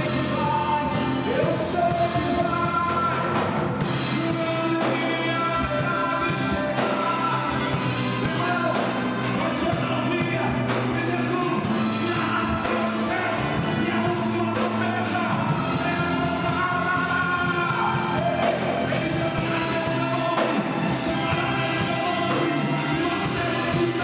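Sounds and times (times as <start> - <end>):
people singing: 0.0 - 24.0
worship band playing: 0.0 - 24.0.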